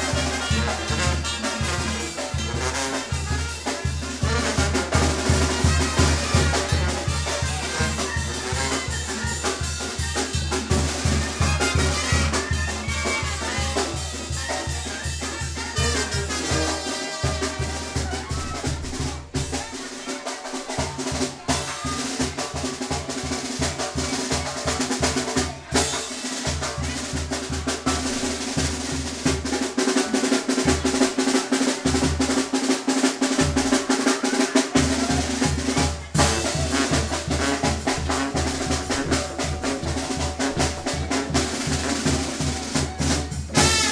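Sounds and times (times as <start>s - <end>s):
brass band playing dance music: 0.0s - 43.9s.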